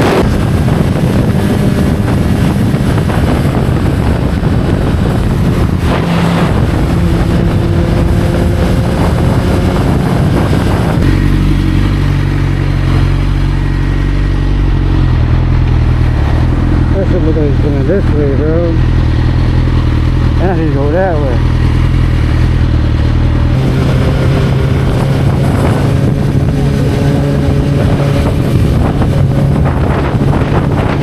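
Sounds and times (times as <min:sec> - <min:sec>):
motorcycle engine running: 0:00.0 - 0:31.0
wind rushing over microphone: 0:00.0 - 0:31.0.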